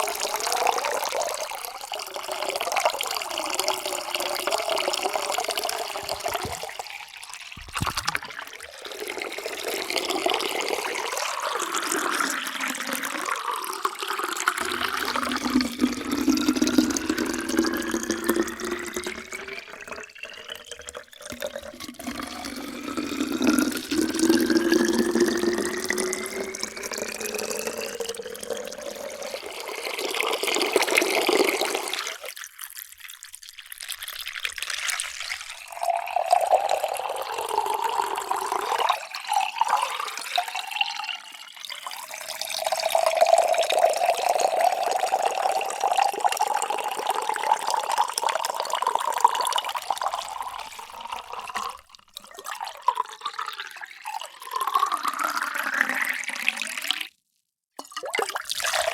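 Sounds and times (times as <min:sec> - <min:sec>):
water pouring into a container: 0:00.0 - 0:58.9.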